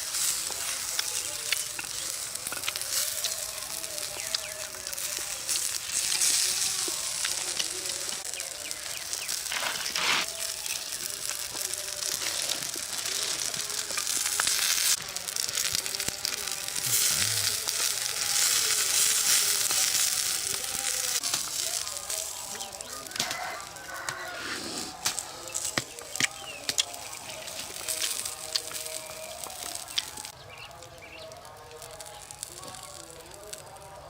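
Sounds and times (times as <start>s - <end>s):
food sizzling in hot oil: 0.0s - 34.0s.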